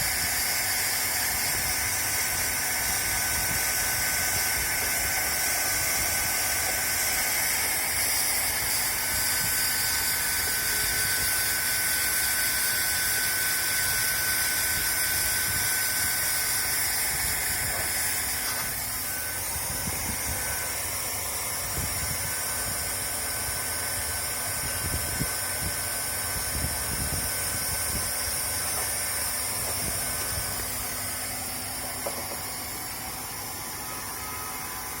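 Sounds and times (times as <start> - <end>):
blower motor whine: 0.0 - 35.0
hot air gun hissing: 0.0 - 35.0.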